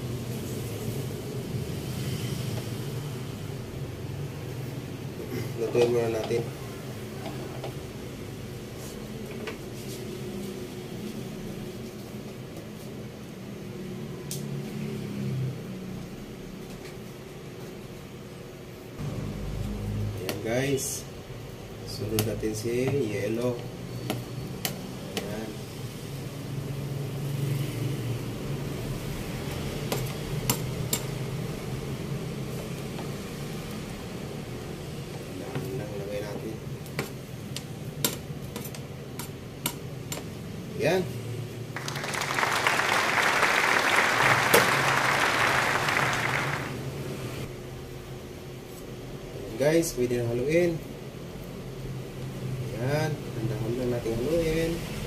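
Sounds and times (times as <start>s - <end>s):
low appliance hum: 0.0s - 55.0s.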